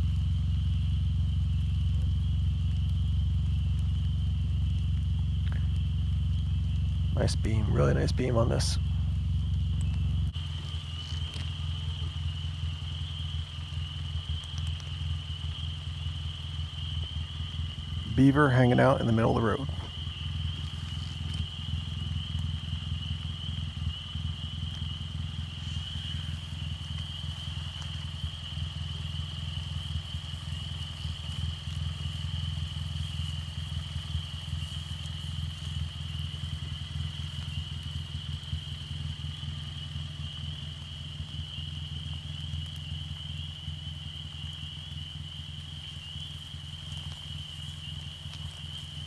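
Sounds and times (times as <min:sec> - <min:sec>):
low engine-like hum: 0:00.0 - 0:49.0.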